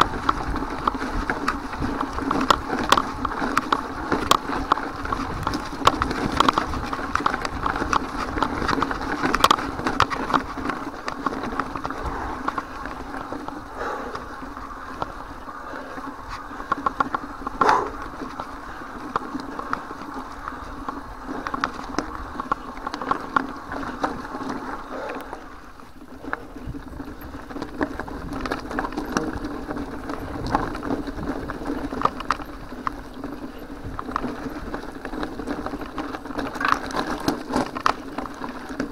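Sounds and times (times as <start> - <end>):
bike rattling: 0.0 - 38.9
bike tyres crunching on gravel: 0.0 - 38.9.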